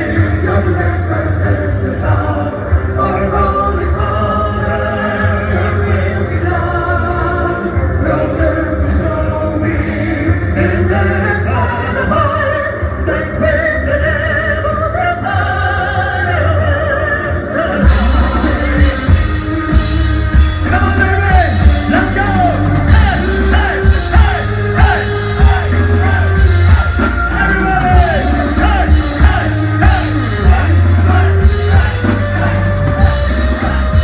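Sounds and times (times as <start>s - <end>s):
drums and bass: 0.0s - 34.0s
live rock band: 0.0s - 34.0s
person singing: 0.0s - 34.0s.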